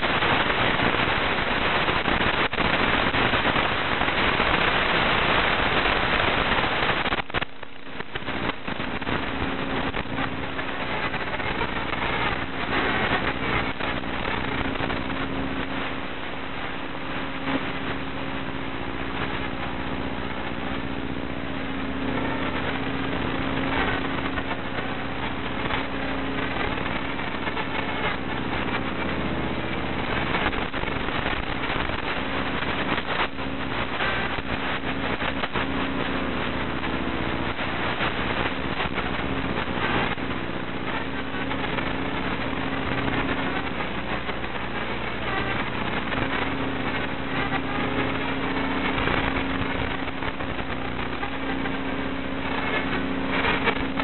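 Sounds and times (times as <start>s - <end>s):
low electrical hum: 0.0s - 54.0s
static hiss: 0.0s - 54.0s.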